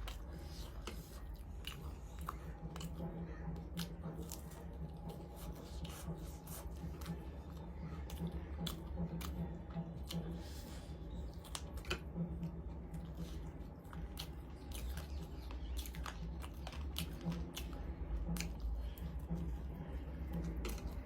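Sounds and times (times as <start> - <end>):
low hum: 0.0 - 21.0
person chewing food: 0.0 - 21.0.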